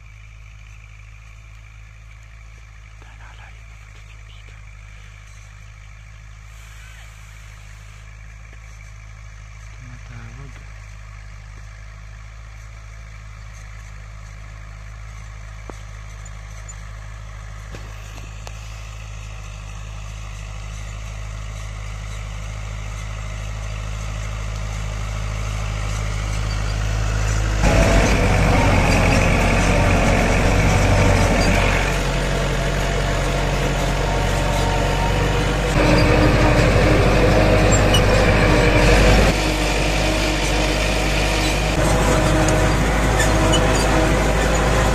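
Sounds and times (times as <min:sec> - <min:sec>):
tractor diesel engine: 0:00.0 - 0:44.9.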